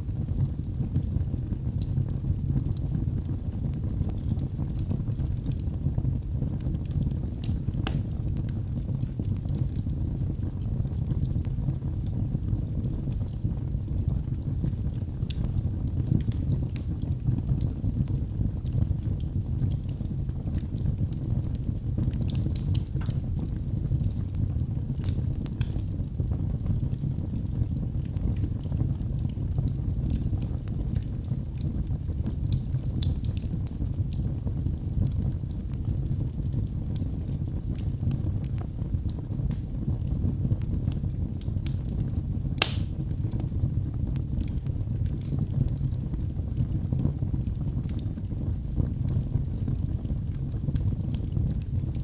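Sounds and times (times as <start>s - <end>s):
flames rumbling: 0.0s - 52.0s
wood fire crackling: 0.0s - 52.0s.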